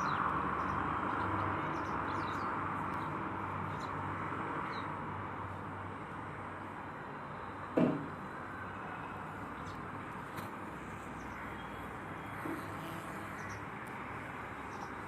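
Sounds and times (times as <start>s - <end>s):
outdoor background hiss: 2.0s - 15.0s.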